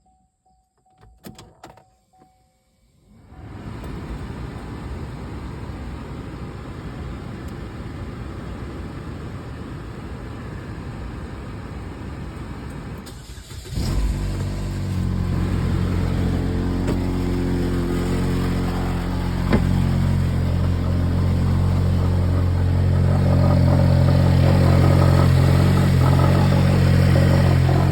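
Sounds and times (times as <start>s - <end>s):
car engine running: 3.4s - 27.9s.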